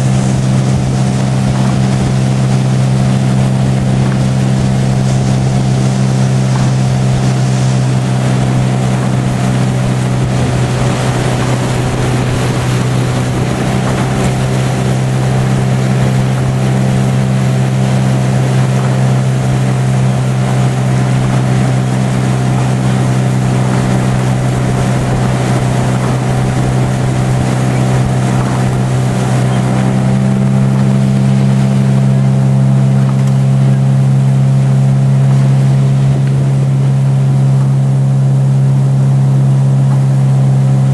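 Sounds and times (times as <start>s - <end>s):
outboard motor running: 0.0s - 40.9s
wind: 0.0s - 40.9s.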